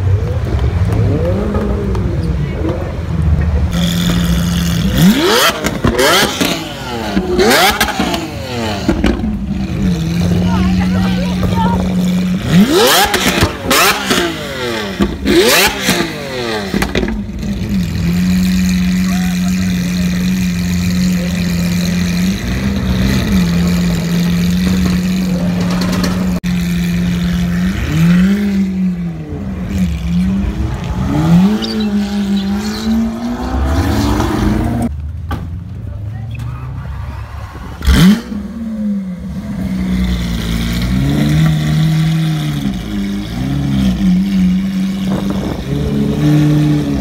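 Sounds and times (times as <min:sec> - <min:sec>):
car engine revving and idling: 0:00.0 - 0:35.2, 0:35.9 - 0:47.0.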